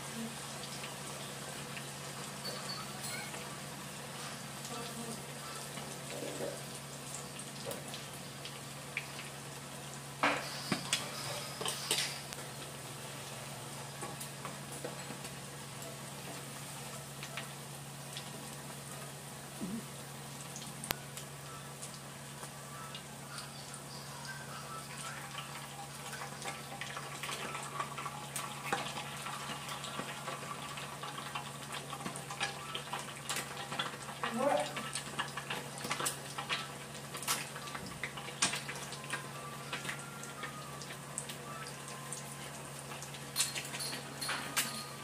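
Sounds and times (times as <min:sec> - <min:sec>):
fritter deep-frying in oil: 0:00.0 - 0:45.0.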